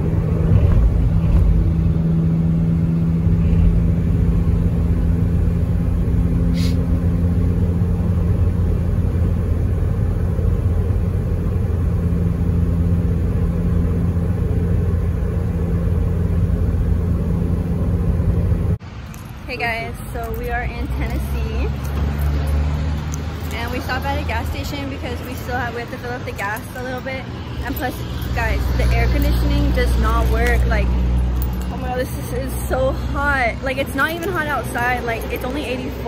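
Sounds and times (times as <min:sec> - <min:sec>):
car engine drone: 0:00.0 - 0:36.0
road rumble: 0:00.0 - 0:36.0.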